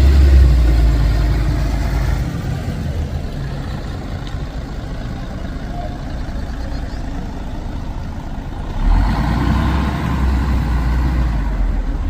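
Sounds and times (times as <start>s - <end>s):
diesel bus engine running: 0.0s - 12.0s
street traffic: 0.0s - 12.0s.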